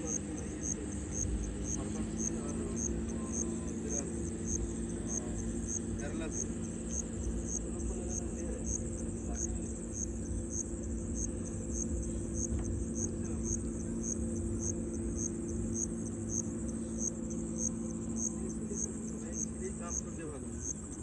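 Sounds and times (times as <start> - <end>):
insects pulsing chirp: 0.0 - 21.0
low steady hum: 0.0 - 21.0
steady high buzz: 0.0 - 21.0.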